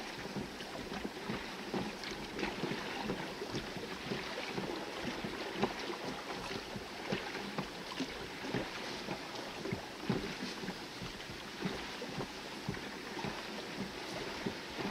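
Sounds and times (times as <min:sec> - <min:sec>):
water splashing against boat hull: 0:00.0 - 0:14.9.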